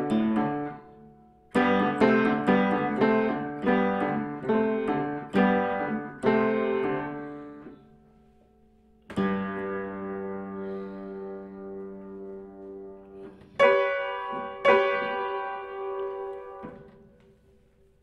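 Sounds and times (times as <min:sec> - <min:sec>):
upright piano notes and chords: 0:00.0 - 0:17.7.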